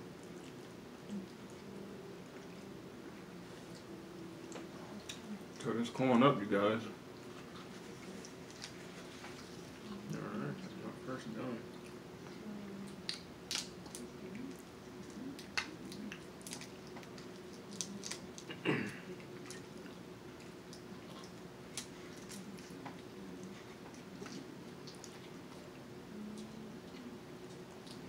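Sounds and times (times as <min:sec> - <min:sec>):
chewing: 0:00.0 - 0:05.7, 0:07.1 - 0:10.8, 0:11.7 - 0:28.0.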